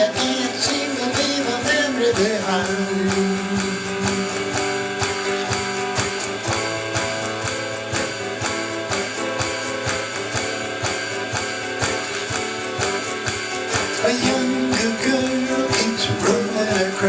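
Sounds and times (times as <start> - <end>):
electronic drum beat: 0.0 - 17.0
guitar playing chords: 0.0 - 17.0.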